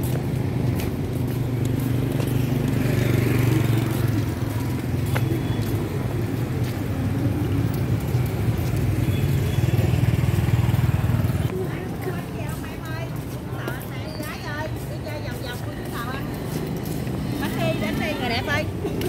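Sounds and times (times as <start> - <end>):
street traffic with motorbikes: 0.0 - 19.0.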